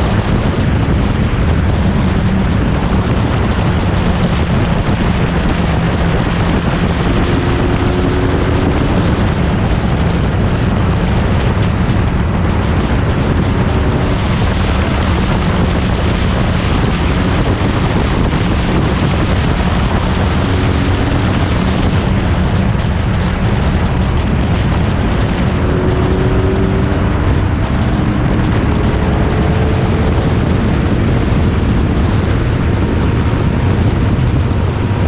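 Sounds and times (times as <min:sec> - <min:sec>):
racing car engine running hard: 0:00.0 - 0:35.0
wind buffeting microphone: 0:00.0 - 0:35.0.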